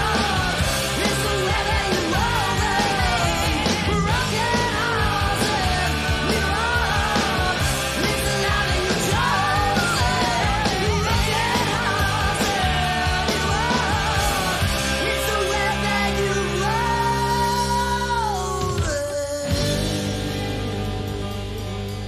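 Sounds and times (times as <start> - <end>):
hard rock song with singer: 0.0 - 22.0.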